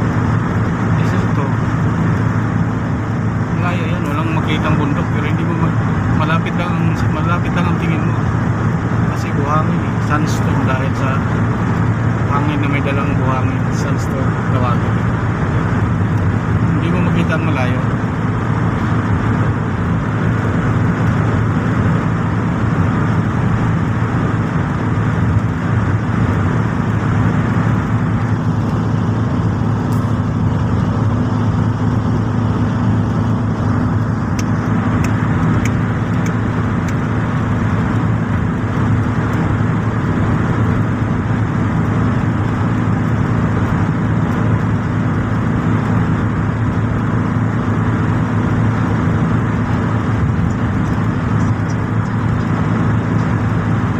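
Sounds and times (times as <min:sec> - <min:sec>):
car engine and tyre noise: 0:00.0 - 0:53.9.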